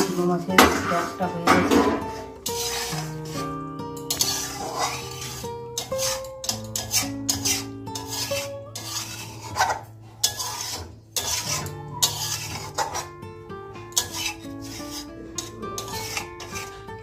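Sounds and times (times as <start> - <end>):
metal spatula scraping a pan: 0.0 - 17.0
soft background music: 0.0 - 17.0.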